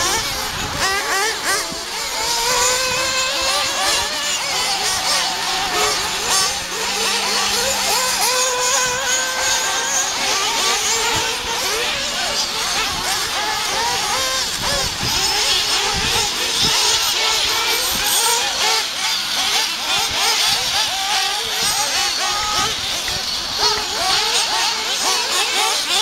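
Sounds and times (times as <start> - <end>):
small engines whining at high revs: 0.0 - 26.0.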